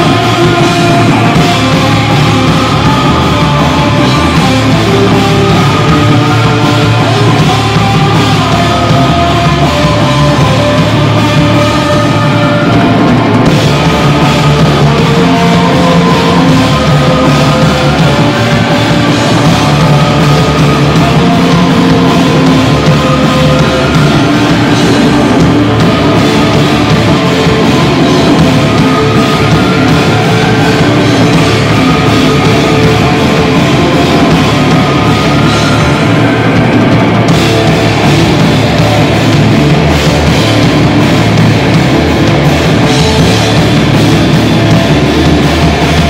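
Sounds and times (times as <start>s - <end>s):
drum kit with cymbals: 0.0s - 46.0s
electric bass: 0.0s - 46.0s.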